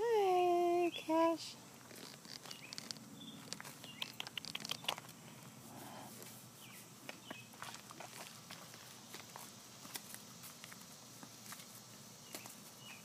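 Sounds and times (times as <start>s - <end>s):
donkey chewing grass: 1.8s - 13.0s.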